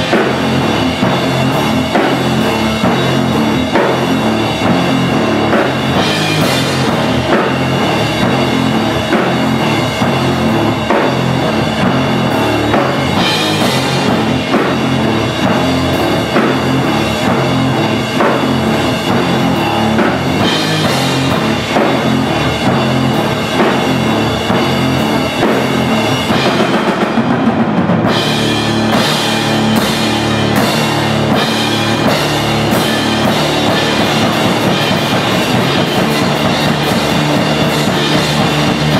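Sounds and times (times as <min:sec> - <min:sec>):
drum kit played hard: 0:00.0 - 0:38.9
electric guitar through amplifiers: 0:00.0 - 0:38.9.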